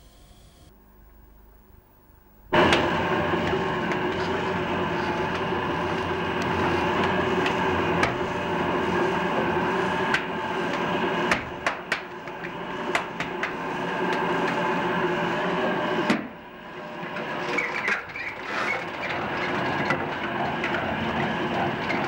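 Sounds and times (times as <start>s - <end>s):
workshop machinery hum: 0.0s - 22.0s.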